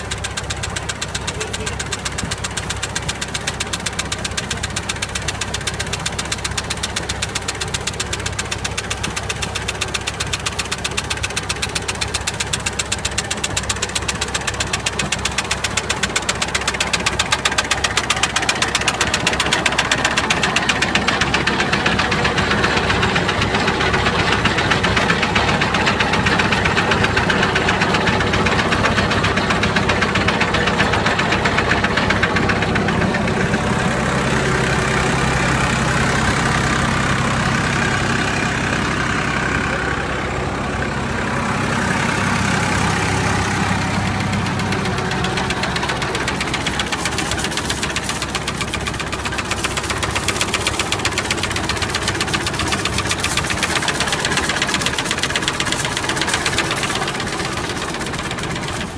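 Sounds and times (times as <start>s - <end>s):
machinery clattering: 0.0s - 58.9s
tractor engine running: 0.0s - 58.9s.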